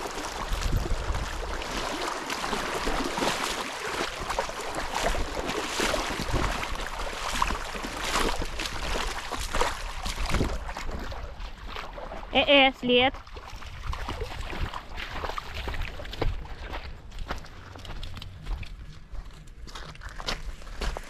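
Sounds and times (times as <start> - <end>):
wind rumble on microphone: 0.0 - 3.2, 4.0 - 12.4, 13.1 - 21.0
water splashing and sloshing: 0.0 - 21.0.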